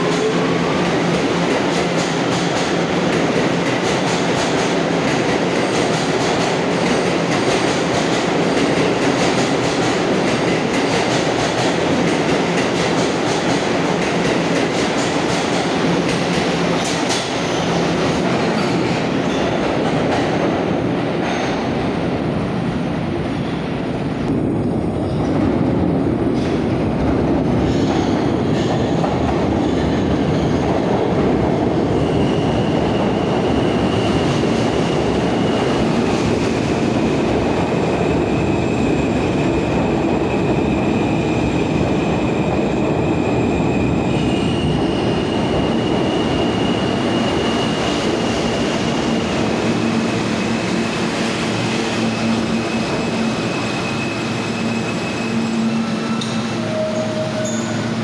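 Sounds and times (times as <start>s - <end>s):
subway train wheels rumbling: 0.0s - 58.0s.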